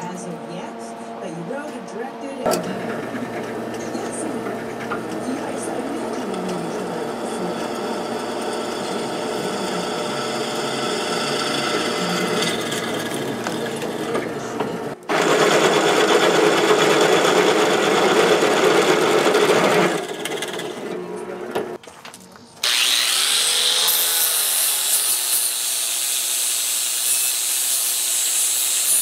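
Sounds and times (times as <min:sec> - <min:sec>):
drill press cutting steel: 0:02.5 - 0:21.8, 0:22.6 - 0:29.0.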